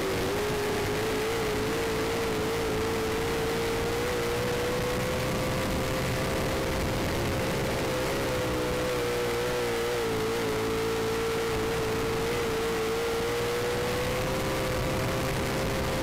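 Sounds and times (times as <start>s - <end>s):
race car engine at high revs: 0.0s - 16.0s.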